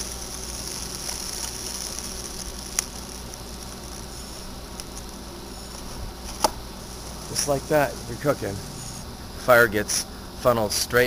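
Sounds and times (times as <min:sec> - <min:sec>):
eggs sizzling in a skillet: 0:00.0 - 0:10.2.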